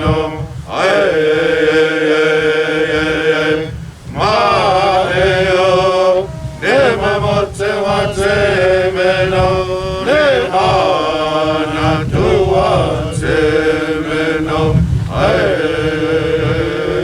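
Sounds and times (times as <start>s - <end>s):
person chanting long notes: 0.0s - 17.0s.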